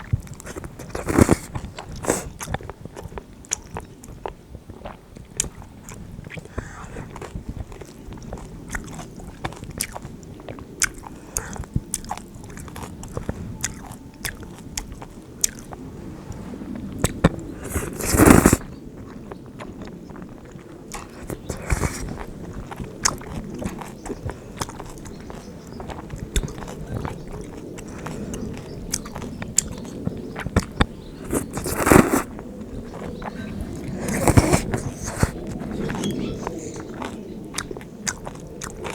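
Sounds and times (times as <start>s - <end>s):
chewing and crunching: 0.0s - 38.9s
wet mouth clicks: 0.2s - 15.8s, 17.0s - 18.7s, 20.9s - 32.3s, 33.0s - 38.9s.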